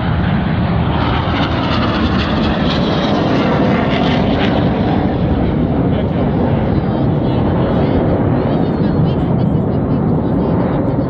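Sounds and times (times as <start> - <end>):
jets passing overhead: 0.0 - 11.0.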